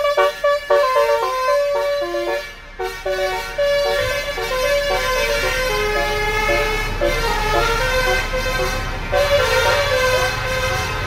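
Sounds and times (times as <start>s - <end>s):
musical bus air horn melody: 0.0s - 11.0s.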